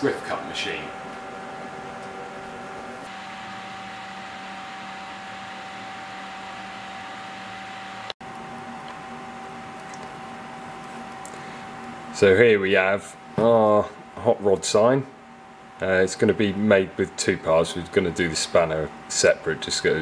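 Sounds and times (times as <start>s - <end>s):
constant whine: 0.0s - 20.0s
mechanical hum and hiss: 0.0s - 20.0s.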